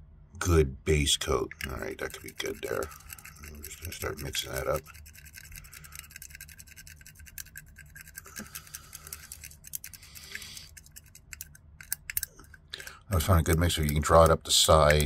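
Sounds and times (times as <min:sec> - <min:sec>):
stir stick scraping plastic cup: 0:01.5 - 0:15.0.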